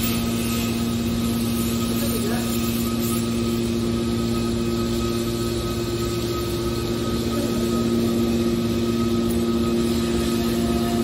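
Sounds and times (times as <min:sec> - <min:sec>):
hydraulic unit humming: 0:00.0 - 0:11.0.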